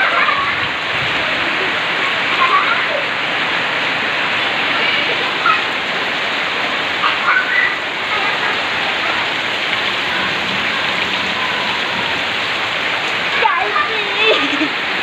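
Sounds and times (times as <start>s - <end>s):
heavy rain splashing into water: 0.0s - 15.0s.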